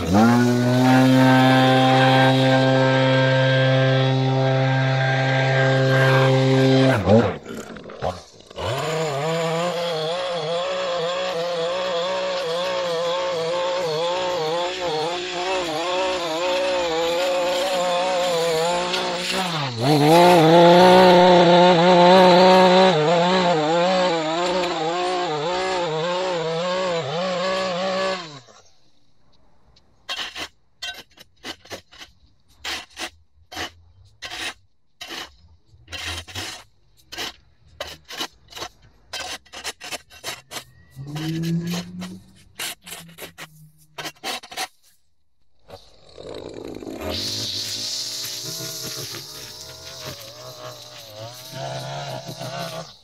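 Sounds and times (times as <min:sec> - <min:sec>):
gas edger cutting concrete edge: 0:00.0 - 0:28.6, 0:35.9 - 0:44.7, 0:45.7 - 0:53.0
shovel scraping concrete: 0:00.0 - 0:28.6, 0:30.0 - 0:45.0, 0:45.7 - 0:53.0.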